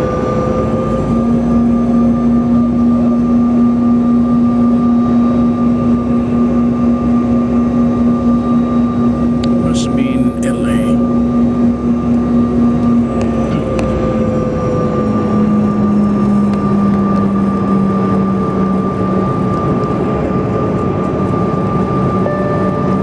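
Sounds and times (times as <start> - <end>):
airliner cabin roar: 0.0 - 23.0.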